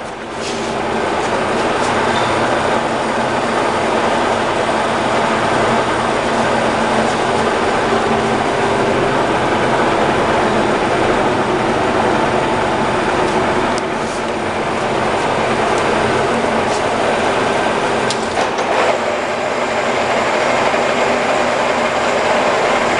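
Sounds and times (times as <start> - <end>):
lathe whirring: 0.0 - 22.9.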